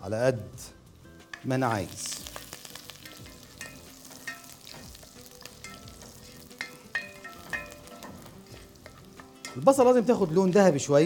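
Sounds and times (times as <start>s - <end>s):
onion sizzling in hot fat: 0.9s - 11.0s.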